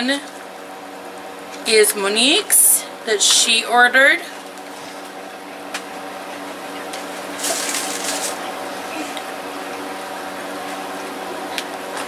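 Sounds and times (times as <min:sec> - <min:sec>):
room hum over hiss: 0:00.0 - 0:12.0.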